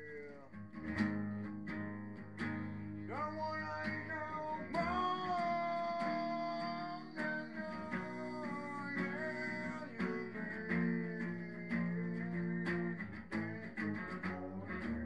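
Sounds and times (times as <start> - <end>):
strummed guitar chords: 0.0 - 15.0
lead electric guitar bending notes: 0.6 - 15.0.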